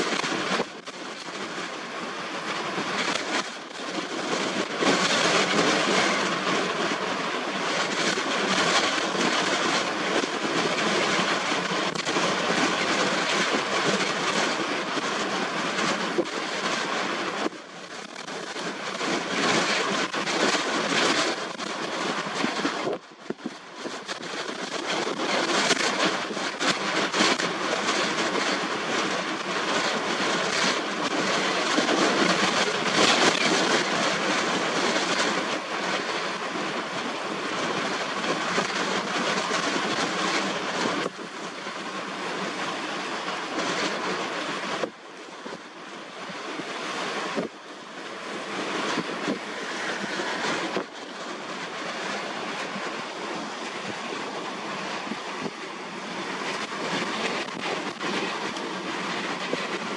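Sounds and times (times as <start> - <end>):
choppy sea: 0.0 - 59.9
gusty wind: 0.0 - 59.9.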